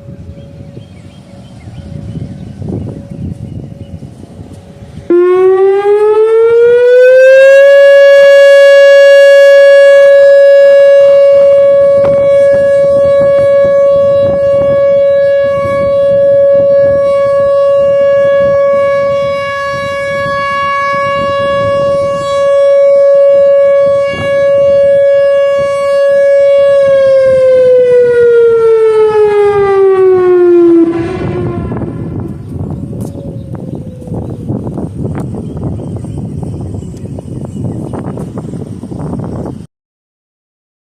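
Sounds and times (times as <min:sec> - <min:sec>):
outdoor warning siren: 0:00.0 - 0:39.7.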